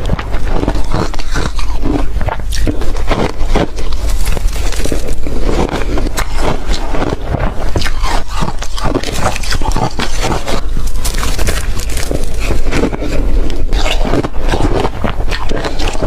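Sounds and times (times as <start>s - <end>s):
ice being crunched and chewed: 0.0s - 16.0s.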